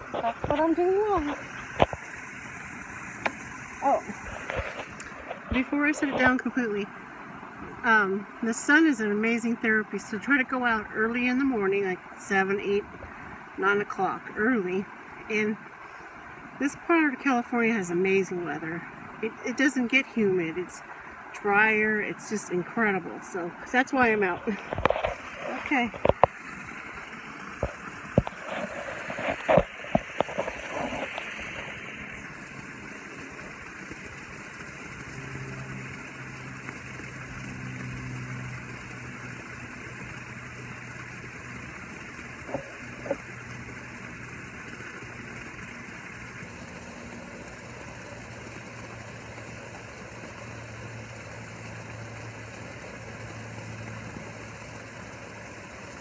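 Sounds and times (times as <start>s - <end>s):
low engine-like hum: 0.0s - 56.0s
pool waterfall splashing: 0.0s - 56.0s.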